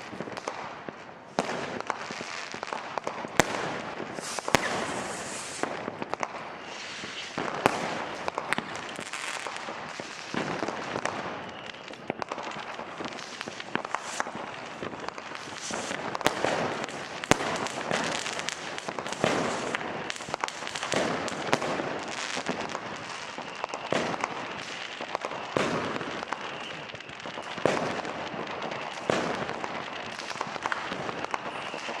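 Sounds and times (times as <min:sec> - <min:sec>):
fireworks crackling: 0:00.0 - 0:32.0
loud firework bangs: 0:00.0 - 0:32.0.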